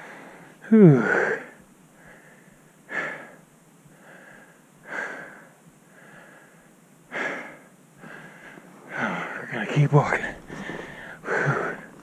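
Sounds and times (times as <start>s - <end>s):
man breathing hard: 0.0s - 9.5s, 10.2s - 12.0s.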